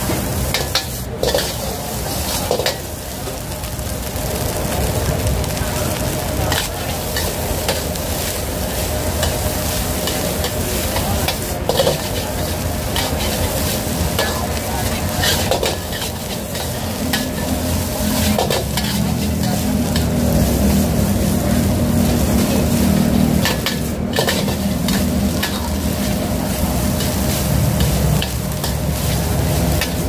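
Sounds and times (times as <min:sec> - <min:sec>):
metal spatula scraping a wok: 0:00.0 - 0:02.9, 0:06.5 - 0:30.0
rice sizzling in a wok: 0:00.0 - 0:30.0.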